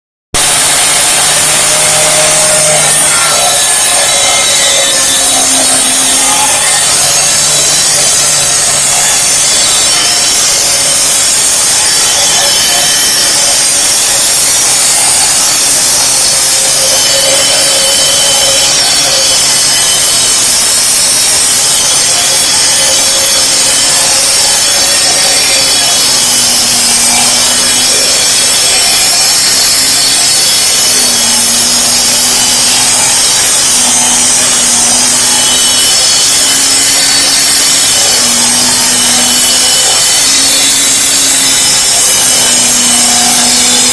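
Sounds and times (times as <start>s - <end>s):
concrete saw cutting concrete: 0.3s - 43.9s.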